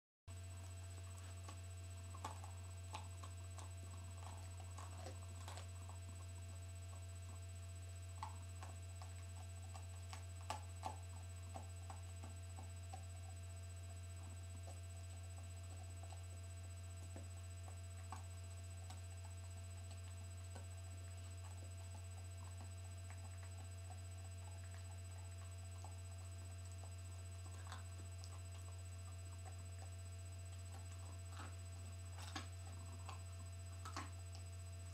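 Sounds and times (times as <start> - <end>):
dog gnawing a bone: 0.3 - 34.9
low electrical hum: 0.3 - 34.9.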